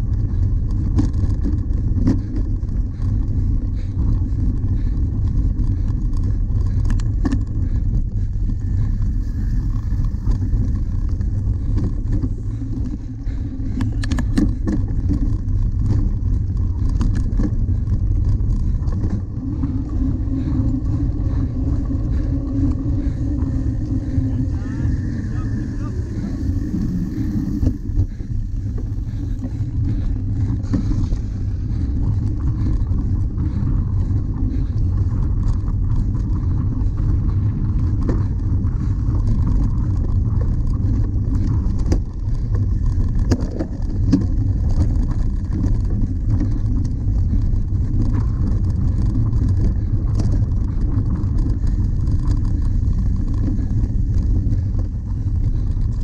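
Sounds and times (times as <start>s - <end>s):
bike tyre noise: 0.0s - 56.0s
wind rumbling on microphone: 0.0s - 56.0s.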